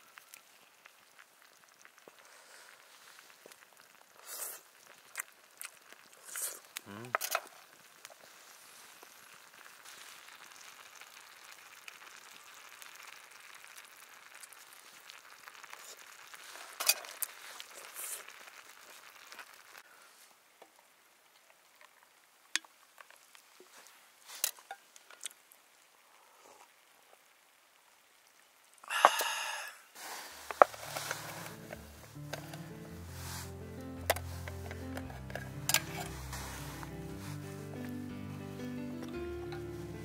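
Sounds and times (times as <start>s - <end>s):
food sizzling: 0.0s - 19.9s, 26.8s - 40.0s.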